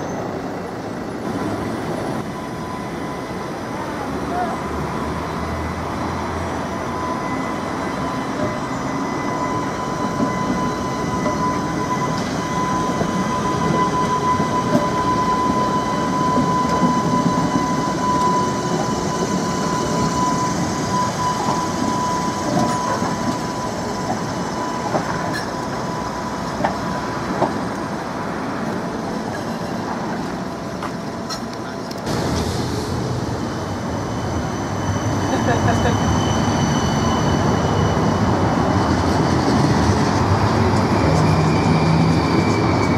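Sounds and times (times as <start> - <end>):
deep rumble of approaching tram: 0.0 - 42.9
high-pitched tram whine: 0.0 - 42.9
tram rolling on rails: 0.0 - 42.9.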